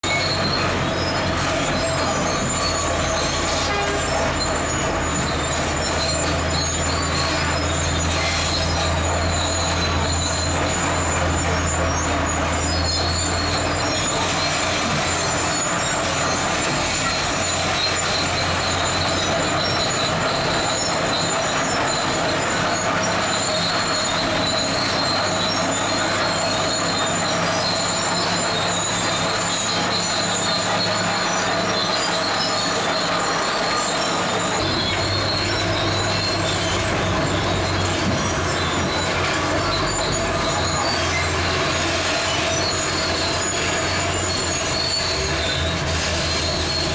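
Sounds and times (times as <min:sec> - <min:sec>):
diesel engine drone: 0:00.0 - 0:46.9
steel tracks squealing: 0:00.0 - 0:46.9.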